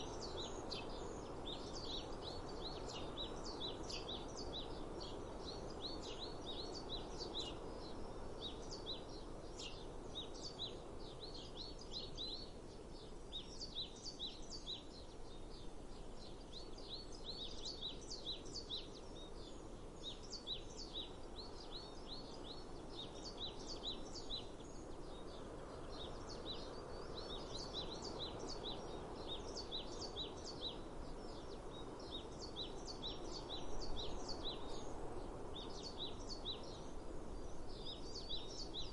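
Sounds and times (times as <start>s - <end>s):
outdoor background noise: 0.0s - 38.9s.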